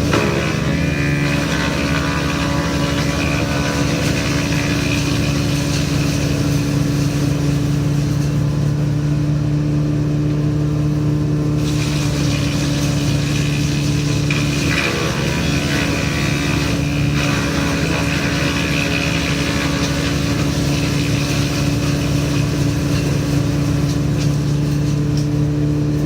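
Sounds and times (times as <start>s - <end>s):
wood chipper engine running: 0.0s - 26.0s.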